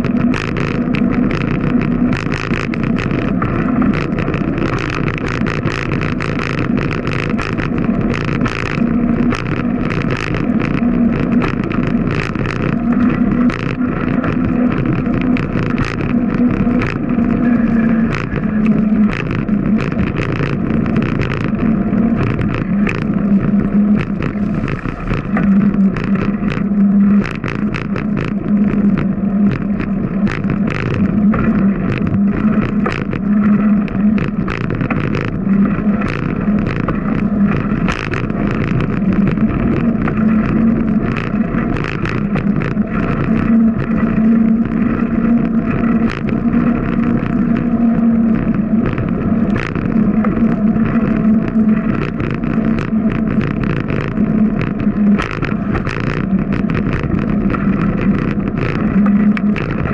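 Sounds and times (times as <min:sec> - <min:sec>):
bicycle rattles and knocks: 0:00.0 - 0:59.9
bicycle riding drone: 0:00.0 - 0:59.9.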